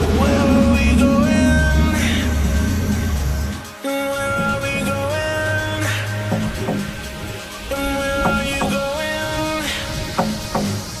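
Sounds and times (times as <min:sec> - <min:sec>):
music with heavy bass: 0:00.0 - 0:11.0.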